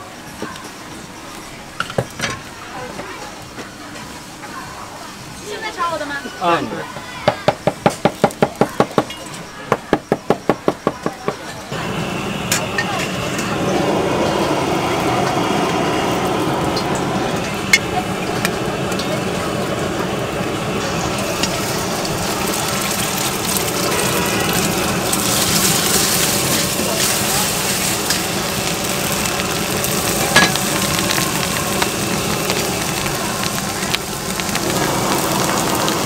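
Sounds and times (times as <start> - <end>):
oil and egg sizzling in wok: 0.0 - 36.0.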